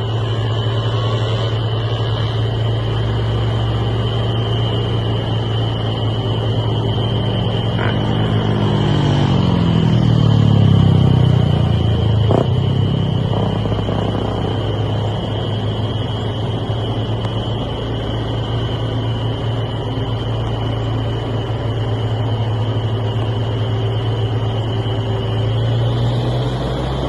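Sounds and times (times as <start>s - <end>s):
high whine: 0.0s - 27.0s
truck engine under load: 0.0s - 27.0s.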